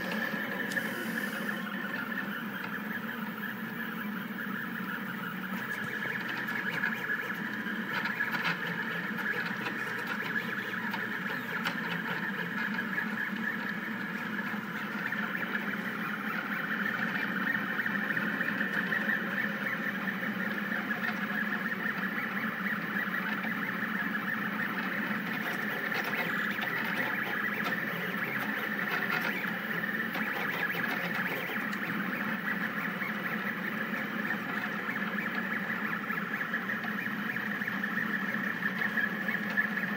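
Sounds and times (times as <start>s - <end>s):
stepper motors whining: 0.0s - 39.9s.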